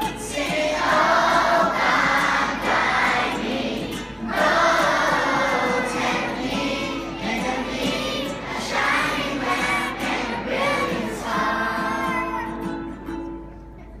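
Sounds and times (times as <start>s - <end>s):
children's choir singing: 0.0s - 12.7s
strummed acoustic guitar: 0.0s - 14.0s.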